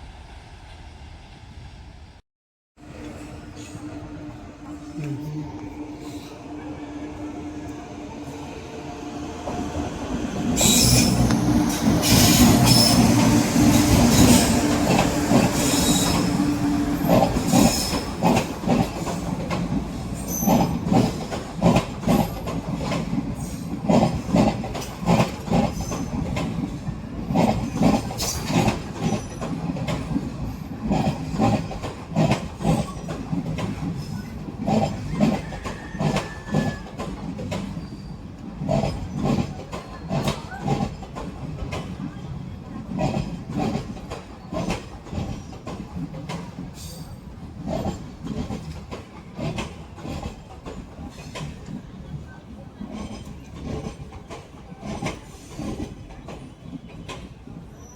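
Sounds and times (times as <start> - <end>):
train rushing past: 2.8 - 57.8
train wheels clattering on rails: 9.5 - 57.9.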